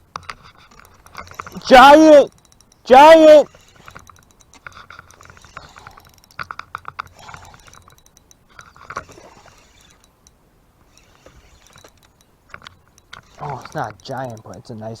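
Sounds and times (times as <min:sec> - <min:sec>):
fishing reel clicking: 0:00.6 - 0:15.0.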